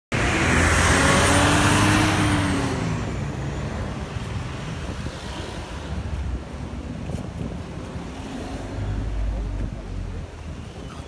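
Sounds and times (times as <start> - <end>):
road traffic noise: 0.1 - 11.0.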